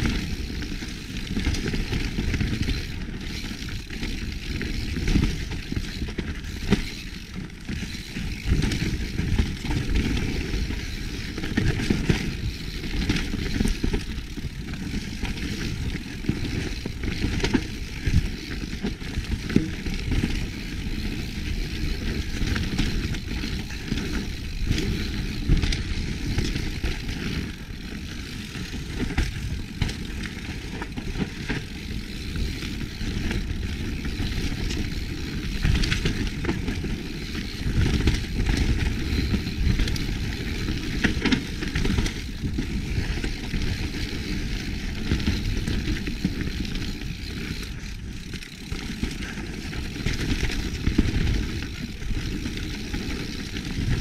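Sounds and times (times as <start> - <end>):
bike rattles and knocks: 0.0 - 54.0
bike tyres on dirt: 0.0 - 54.0.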